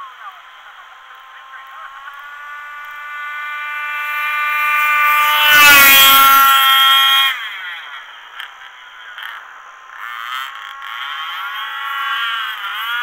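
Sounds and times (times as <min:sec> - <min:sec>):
rc buggy engine high revs: 0:00.0 - 0:13.0.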